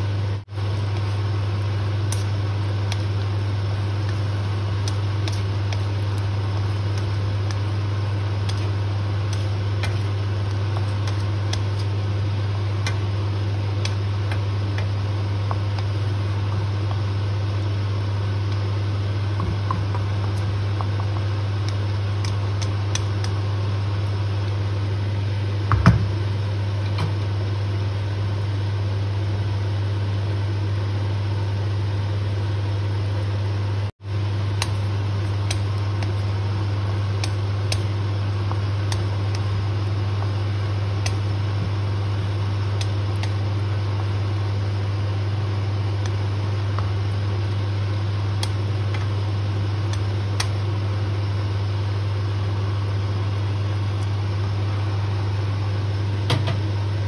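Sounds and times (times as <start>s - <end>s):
kitchen fan humming: 0.0s - 57.0s.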